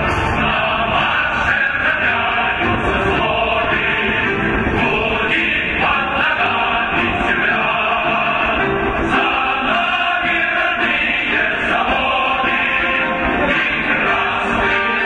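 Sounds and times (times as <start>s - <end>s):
choral singing: 0.0s - 15.0s
orchestral music: 0.0s - 15.0s.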